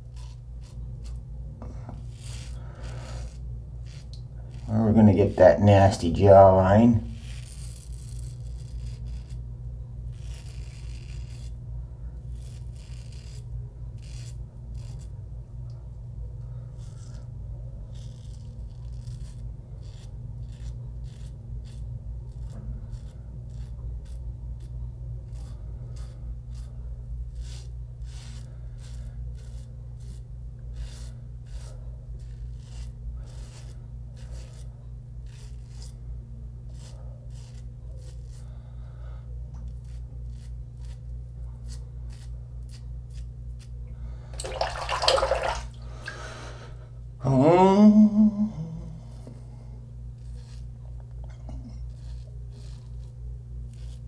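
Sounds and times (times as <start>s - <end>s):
razor scraping stubble: 0.0s - 15.2s, 16.5s - 38.9s, 39.5s - 43.8s, 49.0s - 54.0s
steady low hum: 0.0s - 54.0s.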